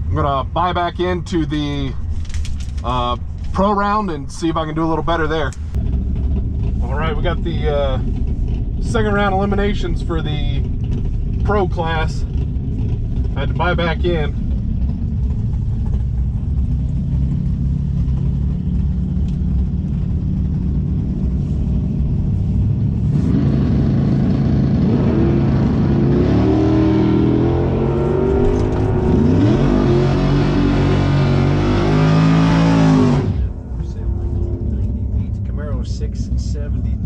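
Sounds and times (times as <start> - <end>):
steady low rumble: 0.0 - 37.0
racing car engines revving: 4.5 - 37.0.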